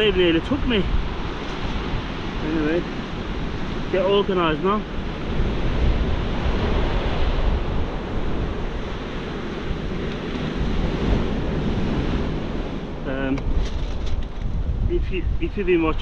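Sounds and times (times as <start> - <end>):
surf on pebble beach: 0.0 - 16.0
wind buffeting microphone: 0.0 - 16.0.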